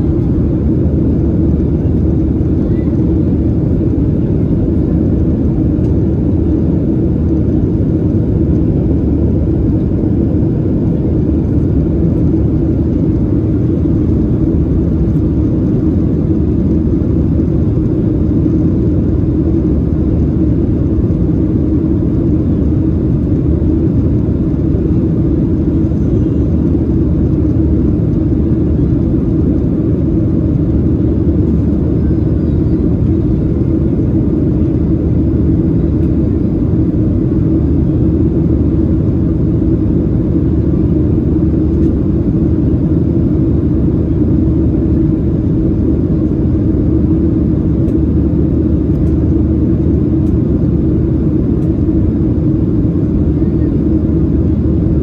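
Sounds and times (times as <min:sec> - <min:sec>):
jet engine drone in cabin: 0:00.0 - 0:55.0.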